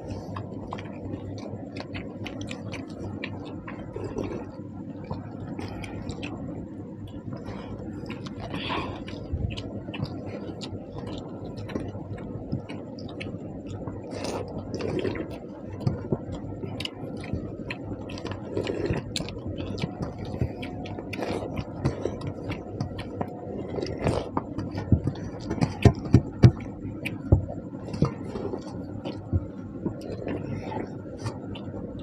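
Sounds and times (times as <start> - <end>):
chewing: 0.0 - 32.0.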